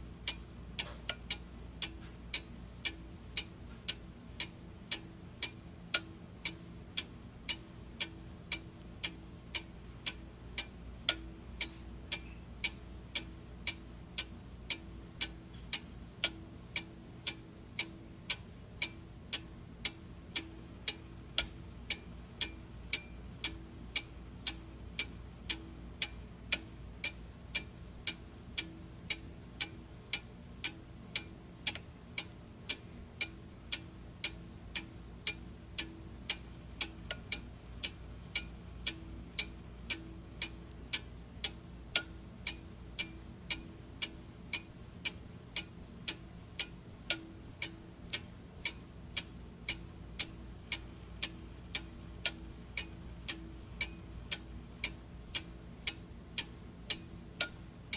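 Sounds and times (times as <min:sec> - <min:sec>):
clock ticking: 0:00.0 - 0:57.9.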